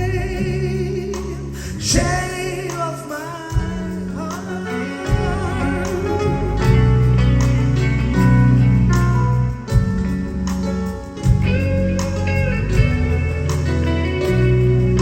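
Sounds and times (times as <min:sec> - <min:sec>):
held bass notes: 0:00.0 - 0:15.0
plucked guitar melody: 0:00.0 - 0:15.0.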